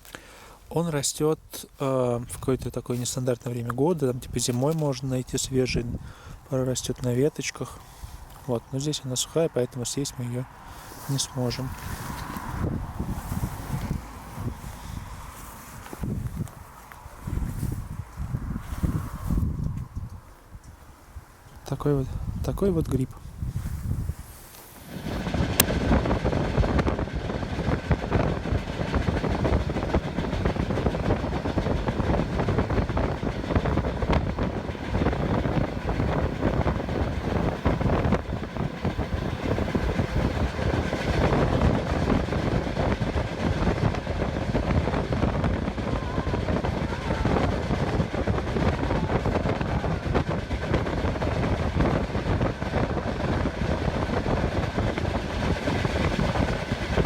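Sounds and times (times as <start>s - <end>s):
moving vehicle rumbling and rattling: 8.0s - 57.0s.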